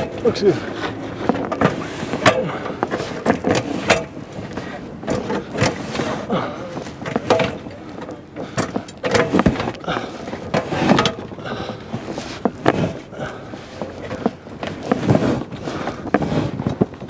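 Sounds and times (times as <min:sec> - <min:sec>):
feet on ladder rungs: 0:00.0 - 0:17.0
metal ladder clanking: 0:00.0 - 0:17.0.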